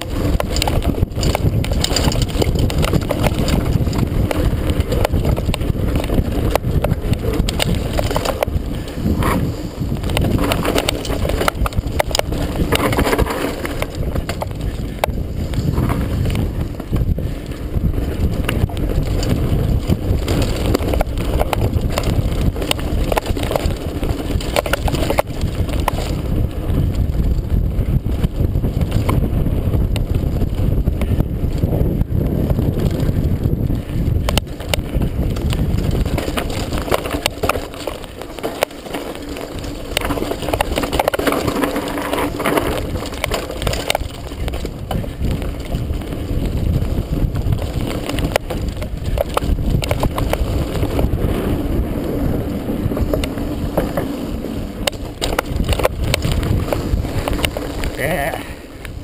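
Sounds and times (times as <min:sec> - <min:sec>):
bike rattles and knocks: 0:00.0 - 0:59.0
mountain bike tyres rumbling: 0:00.0 - 0:59.0.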